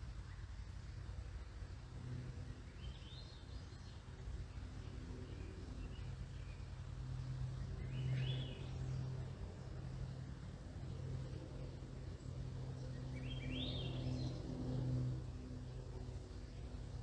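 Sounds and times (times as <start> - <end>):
distant aircraft drone: 0.0 - 17.0.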